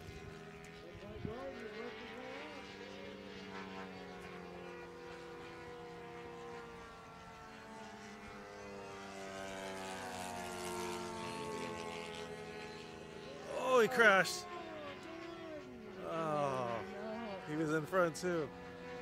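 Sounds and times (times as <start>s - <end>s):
model airplane engines buzzing: 0.0s - 19.0s.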